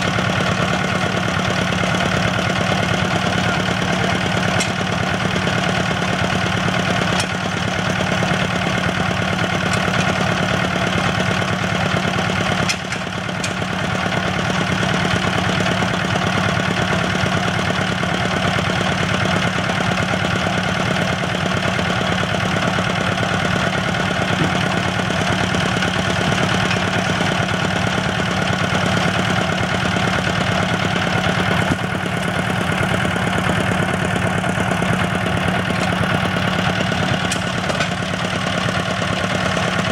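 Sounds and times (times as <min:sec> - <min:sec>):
drilling rig engine humming: 0:00.0 - 0:39.9.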